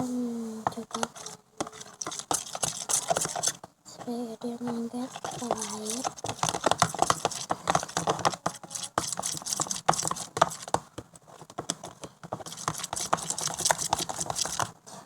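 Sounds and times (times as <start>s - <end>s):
slime squelching: 0.8s - 3.6s, 4.7s - 10.9s, 11.7s - 14.7s.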